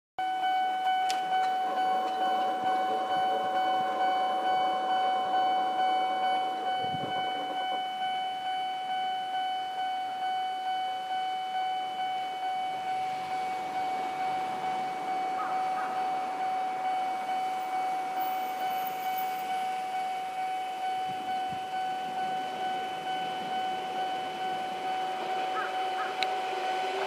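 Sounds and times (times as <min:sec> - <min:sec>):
level crossing bell ringing: 0:00.2 - 0:27.0
low mechanical sound: 0:00.2 - 0:27.0.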